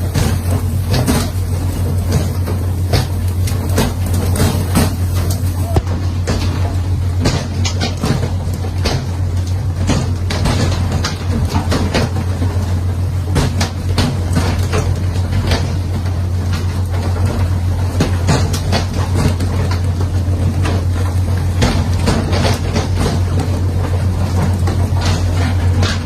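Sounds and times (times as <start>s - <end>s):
boat engine droning: 0.0s - 18.0s, 19.0s - 26.0s
knocks and clatter: 0.0s - 26.0s.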